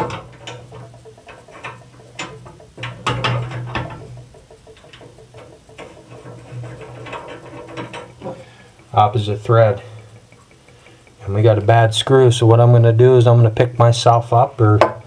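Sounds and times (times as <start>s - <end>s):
metal tools clicking and tapping: 0.0s - 15.0s.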